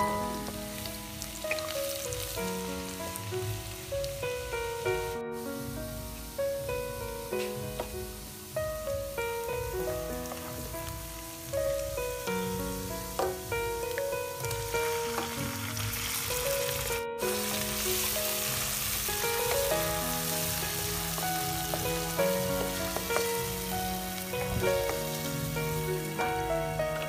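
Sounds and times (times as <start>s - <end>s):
background music: 0.0s - 27.0s
hot oil sizzling in a wok: 0.0s - 27.0s.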